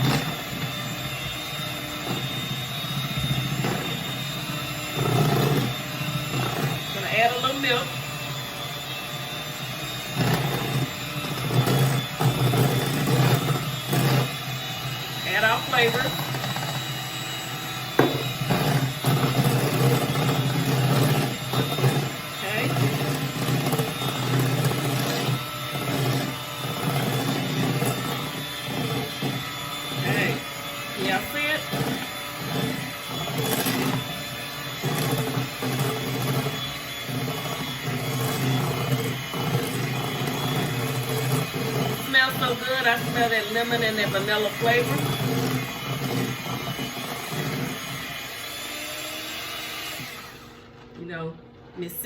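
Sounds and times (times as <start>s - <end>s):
electric hand mixer running: 0.0s - 52.0s.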